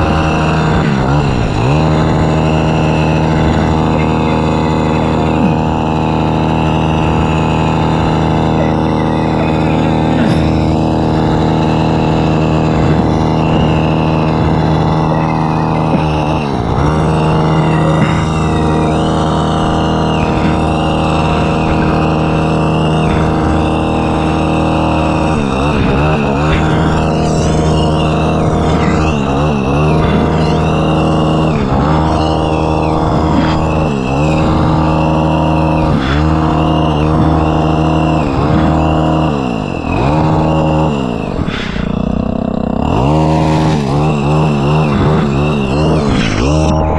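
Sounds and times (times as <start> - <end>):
pole trimmer gas engine running: 0.0 - 46.9.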